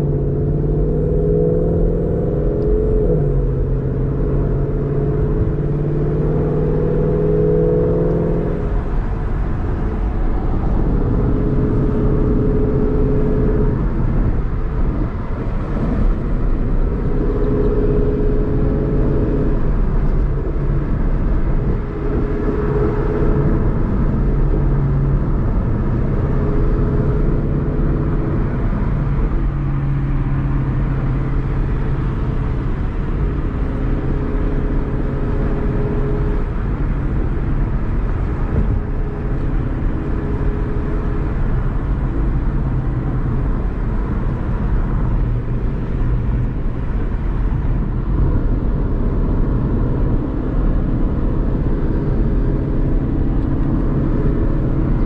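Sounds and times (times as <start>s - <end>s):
road noise: 0.0s - 55.0s.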